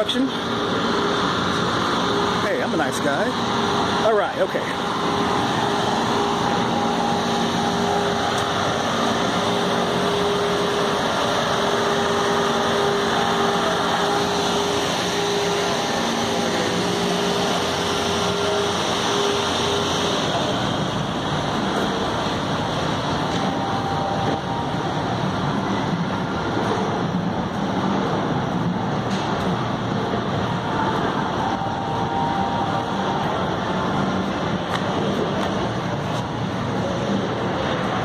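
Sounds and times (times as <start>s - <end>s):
steady hum: 0.0s - 38.0s
street noise: 0.0s - 38.0s
machine motor running: 0.2s - 38.0s.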